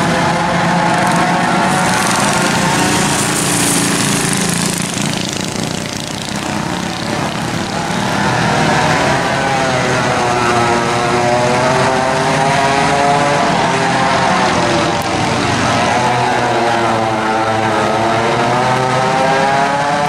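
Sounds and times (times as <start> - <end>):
kart engines racing: 0.0 - 20.0.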